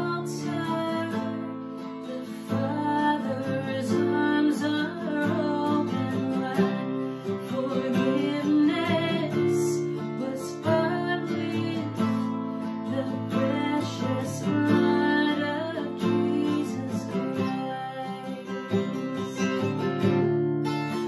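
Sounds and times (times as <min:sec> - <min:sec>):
woman singing slow worship song: 0:00.0 - 0:19.0
acoustic guitar strumming: 0:00.0 - 0:21.0.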